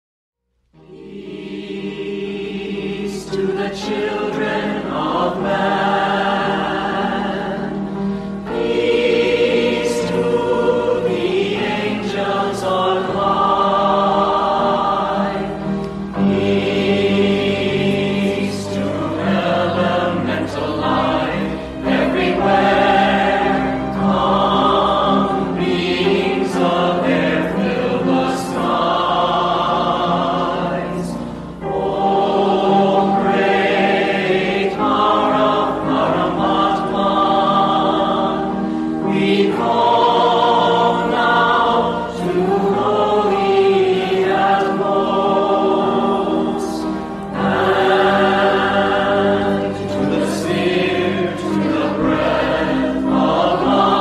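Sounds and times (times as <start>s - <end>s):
choir singing: 0.7s - 54.0s.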